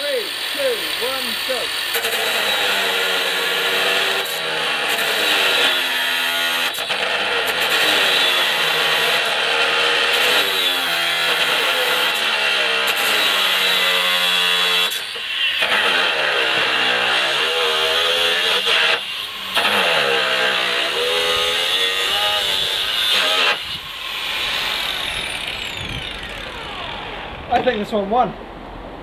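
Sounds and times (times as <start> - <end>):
angle grinders cutting steel rod: 0.0 - 27.9.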